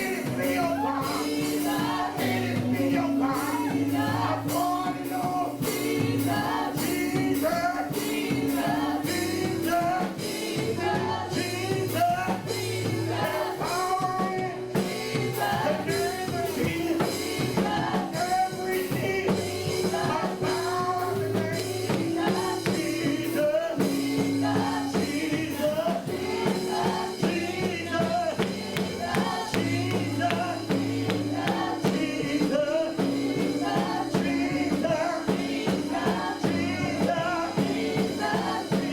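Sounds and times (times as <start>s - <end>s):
gospel voices singing over a band: 0.0s - 38.9s.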